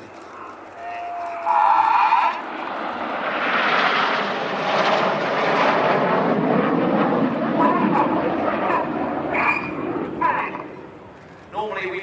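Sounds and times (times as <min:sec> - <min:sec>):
jets passing: 0:01.4 - 0:12.0.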